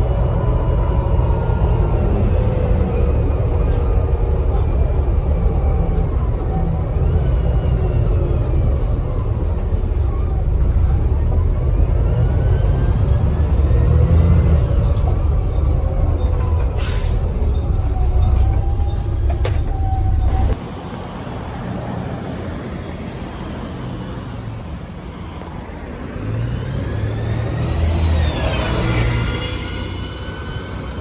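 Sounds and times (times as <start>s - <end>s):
bus diesel engine pulling: 0.0s - 31.0s.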